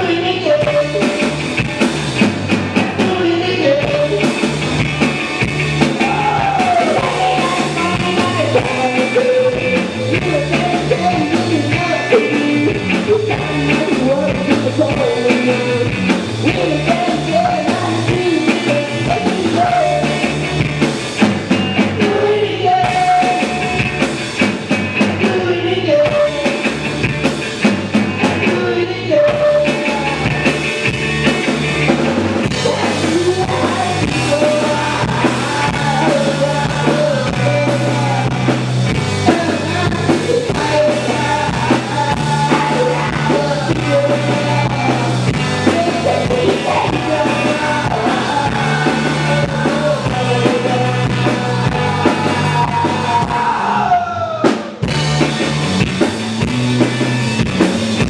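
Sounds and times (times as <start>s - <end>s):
man singing lead: 0.0s - 55.1s
bass guitar: 0.0s - 58.0s
drums: 0.0s - 58.0s
electric guitar: 0.0s - 58.0s.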